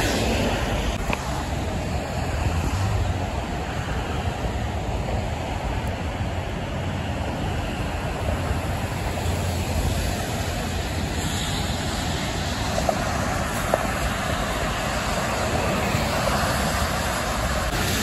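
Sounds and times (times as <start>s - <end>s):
heavy highway traffic: 0.0s - 18.0s
tyres hissing on wet pavement: 0.0s - 18.0s.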